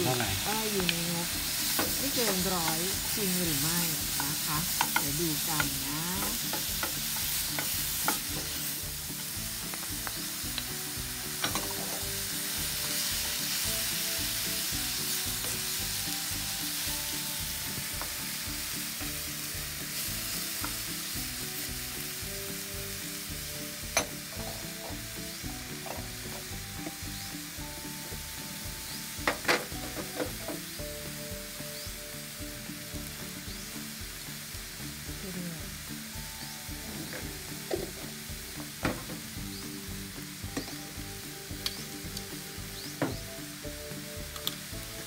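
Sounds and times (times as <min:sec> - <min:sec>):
vegetables sizzling in a frying pan: 0:00.0 - 0:45.0.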